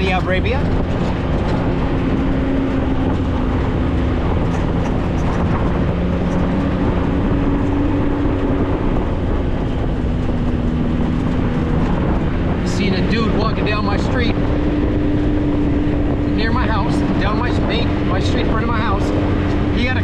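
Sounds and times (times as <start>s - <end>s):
vehicle engine droning: 0.0s - 20.0s
wind and driving noise: 0.0s - 20.0s.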